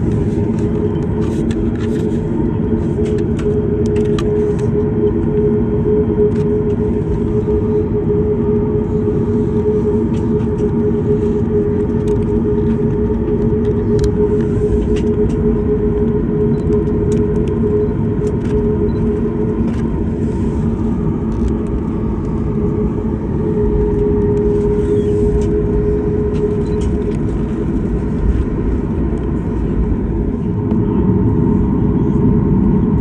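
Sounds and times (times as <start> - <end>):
aircraft cabin rumble: 0.0 - 33.0
steady hum: 0.0 - 33.0.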